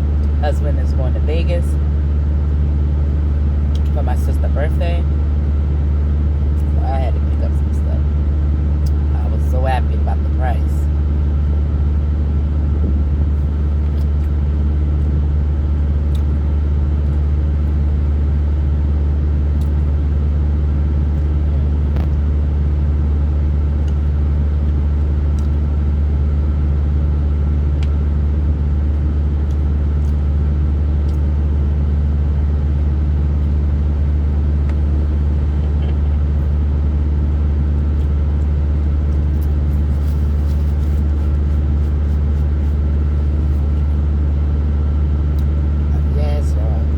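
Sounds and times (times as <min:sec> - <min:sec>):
low motor rumble: 0:00.0 - 0:46.9.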